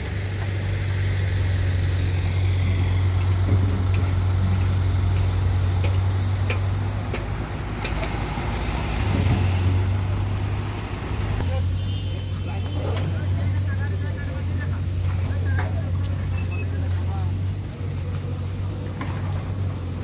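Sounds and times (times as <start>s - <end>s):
diesel engine running: 0.0s - 11.8s, 12.6s - 20.0s.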